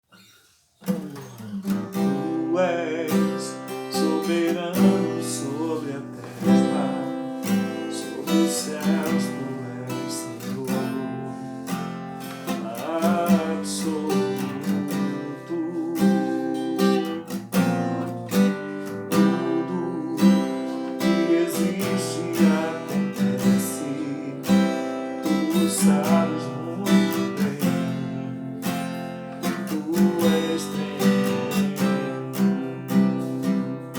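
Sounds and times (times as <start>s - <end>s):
acoustic guitar playing: 0.0s - 33.9s.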